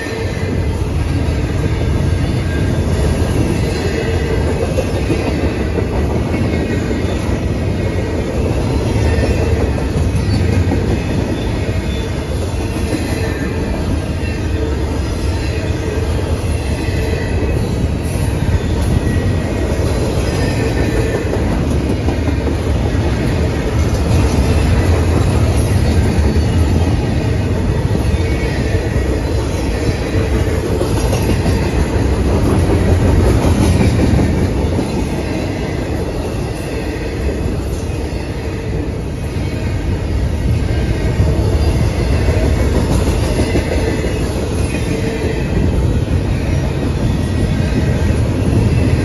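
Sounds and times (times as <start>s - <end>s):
freight train wheels rolling: 0.0s - 49.0s.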